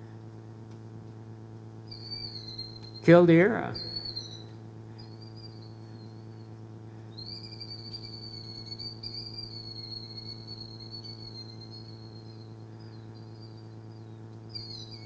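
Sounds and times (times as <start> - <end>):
electrical hum: 0.0 - 15.0
bird call through loudspeakers: 1.9 - 6.6, 7.2 - 15.0.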